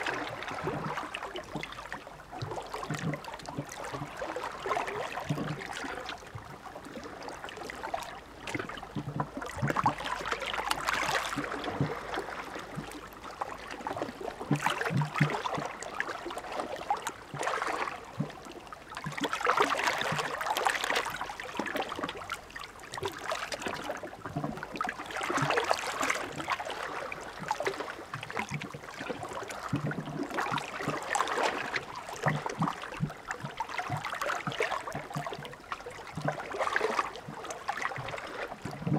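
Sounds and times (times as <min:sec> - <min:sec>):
small waves breaking on shore: 0:00.0 - 0:38.9.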